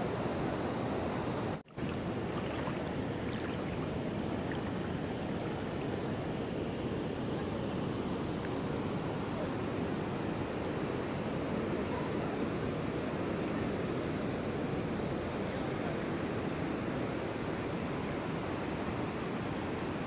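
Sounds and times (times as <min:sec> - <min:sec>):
river water over rocky cascade: 0:00.1 - 0:20.0.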